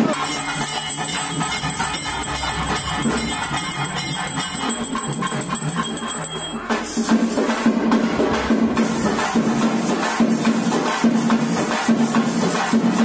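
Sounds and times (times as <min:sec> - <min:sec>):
hand percussion rhythm: 0:00.0 - 0:13.0
jingling bells: 0:00.0 - 0:13.0.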